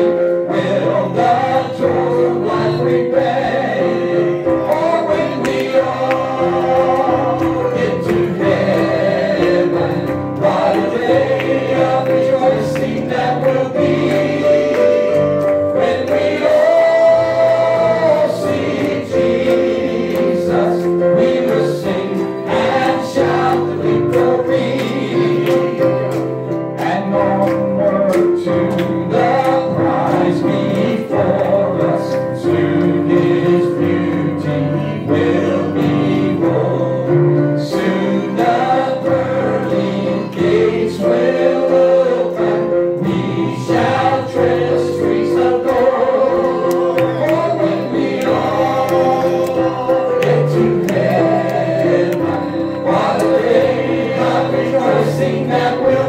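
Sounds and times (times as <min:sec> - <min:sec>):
group singing gospel song: 0:00.0 - 0:56.0
instrumental accompaniment: 0:00.0 - 0:56.0.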